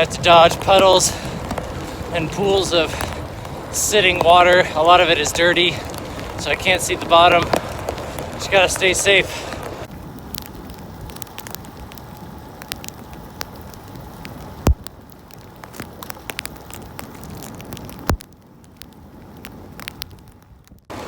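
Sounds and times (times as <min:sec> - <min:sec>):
small ticks: 0:00.0 - 0:20.8
bicycle on wet road: 0:00.0 - 0:21.0.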